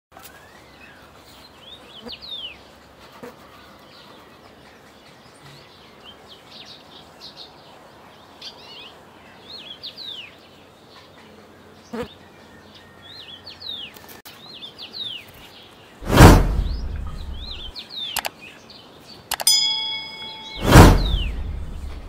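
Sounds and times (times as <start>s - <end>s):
small birds chirping: 0.2s - 16.0s, 16.7s - 21.5s
faint outdoor hiss: 0.2s - 22.0s.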